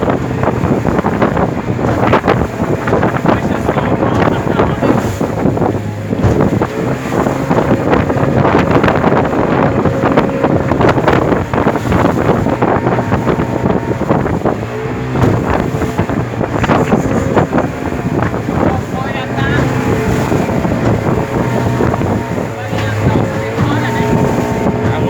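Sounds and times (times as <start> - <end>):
motorboat engine running: 0.0 - 25.0
wind buffeting microphone: 0.0 - 25.0.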